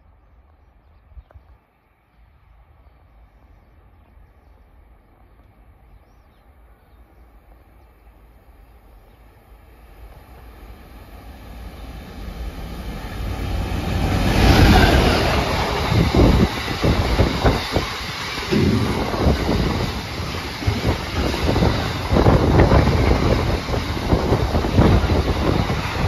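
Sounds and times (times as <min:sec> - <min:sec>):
diesel train rumble passing: 0:00.0 - 0:26.0.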